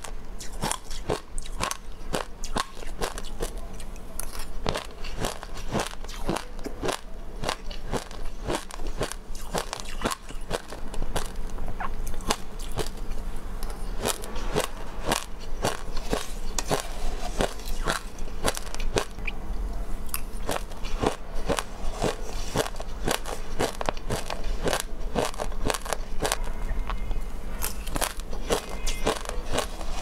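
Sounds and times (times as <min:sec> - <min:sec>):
person chewing seeds: 0:00.0 - 0:19.4, 0:20.0 - 0:30.0.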